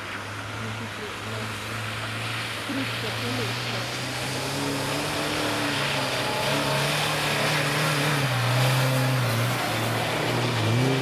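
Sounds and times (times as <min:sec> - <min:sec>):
car passing close by: 0:00.0 - 0:11.0
off-road car engines under load: 0:00.0 - 0:11.0.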